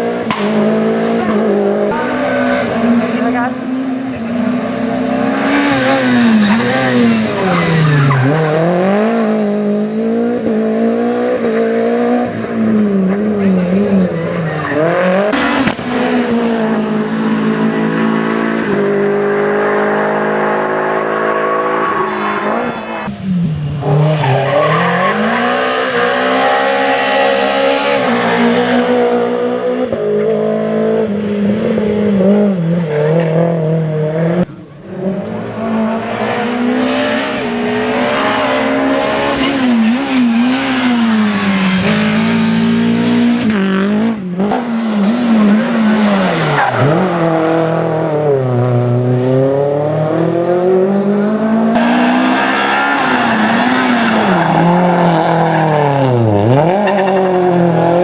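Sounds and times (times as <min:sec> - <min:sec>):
rally car engine at full throttle: 0:00.0 - 0:58.0.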